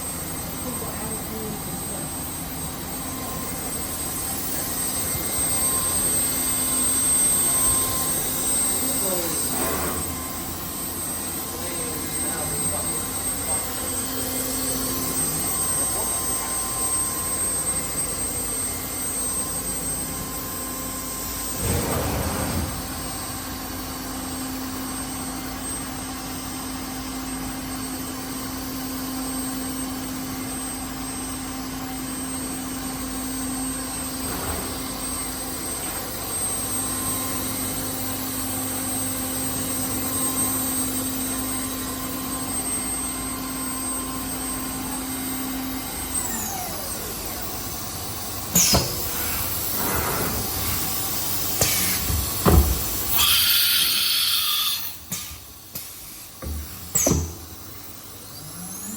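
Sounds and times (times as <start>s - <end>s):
machine hum with high whine: 0.0s - 58.9s.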